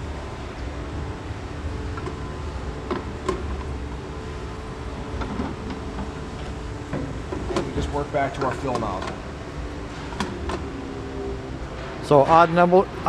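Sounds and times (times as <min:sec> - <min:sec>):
factory machinery hum: 0:00.0 - 0:13.0
ventilation: 0:00.0 - 0:13.0.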